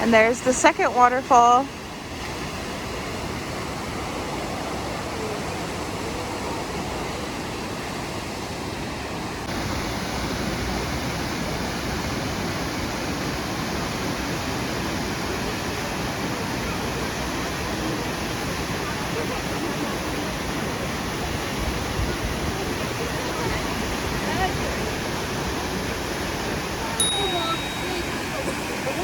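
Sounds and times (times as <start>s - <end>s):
waterfall roar: 1.7s - 29.0s.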